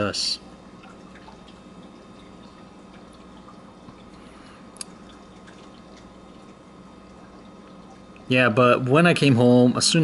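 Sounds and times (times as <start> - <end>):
aquarium pump hum: 0.0 - 10.0
water trickling: 0.0 - 10.0.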